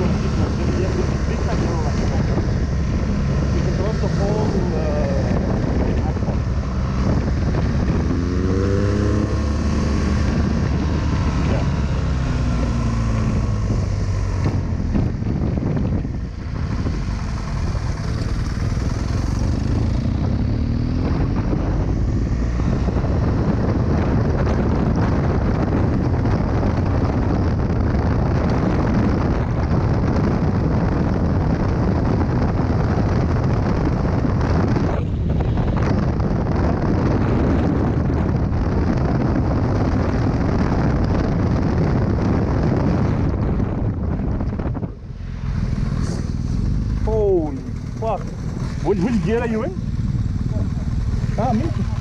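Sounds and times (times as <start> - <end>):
motorcycle engine accelerating: 0.0 - 52.0
wind rushing over microphone: 0.0 - 52.0.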